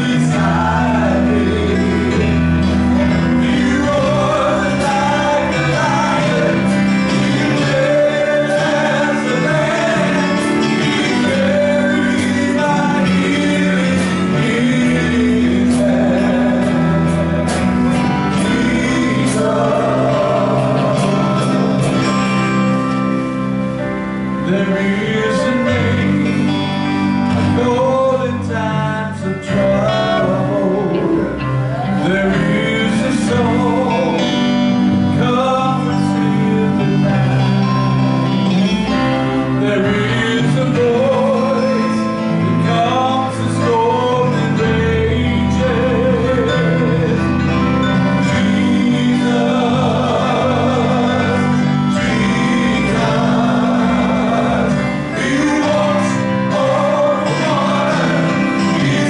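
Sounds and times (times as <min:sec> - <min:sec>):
gospel band playing: 0:00.0 - 0:59.0
men singing: 0:00.0 - 0:59.0.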